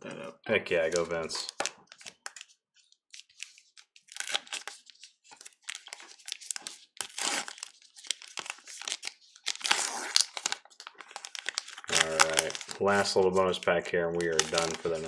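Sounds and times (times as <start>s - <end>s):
plastic wrapper crinkling and tearing: 0.8s - 15.0s.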